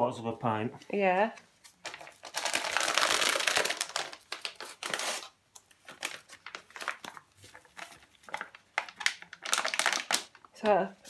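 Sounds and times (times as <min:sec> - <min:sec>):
sachet crinkling and tearing: 0:01.7 - 0:10.6.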